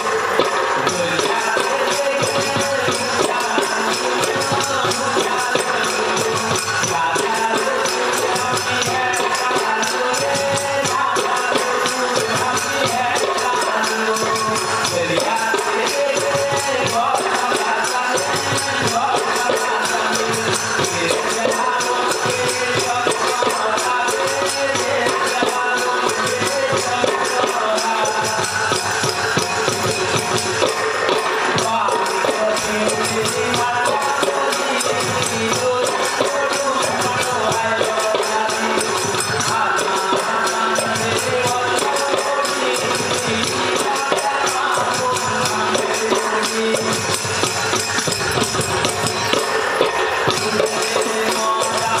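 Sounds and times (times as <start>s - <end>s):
jingling hand percussion: 0.0s - 52.0s.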